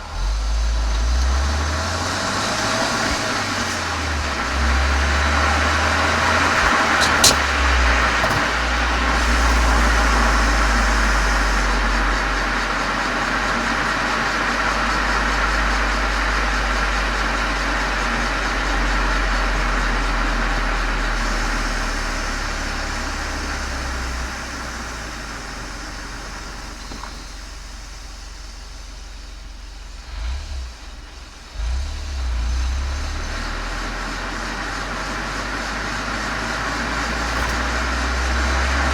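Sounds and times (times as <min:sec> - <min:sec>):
car exhaust droning: 0:00.0 - 0:38.9.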